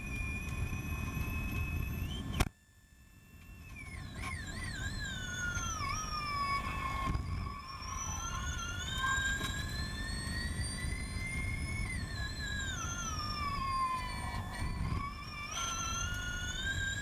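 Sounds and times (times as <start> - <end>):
electric drivetrain whining: 0.0 - 2.5, 3.4 - 17.0.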